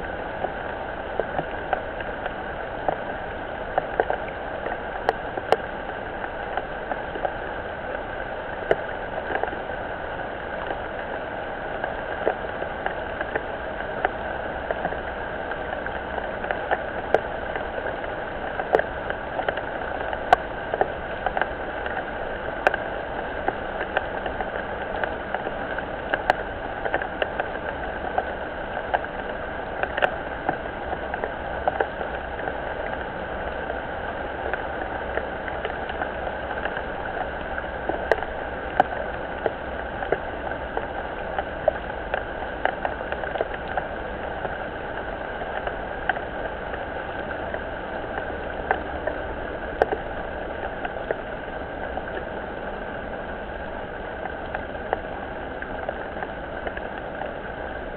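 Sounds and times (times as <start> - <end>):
rain falling on a pond: 0.0 - 57.9
sharp taps of raindrops: 0.0 - 57.9.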